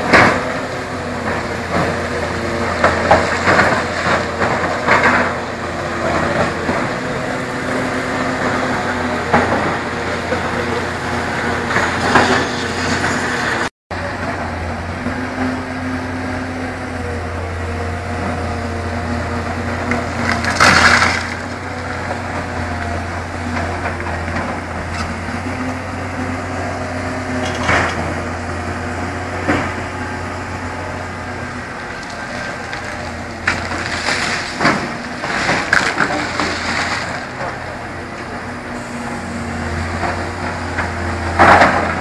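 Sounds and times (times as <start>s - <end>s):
diesel engine humming: 0.0s - 42.0s.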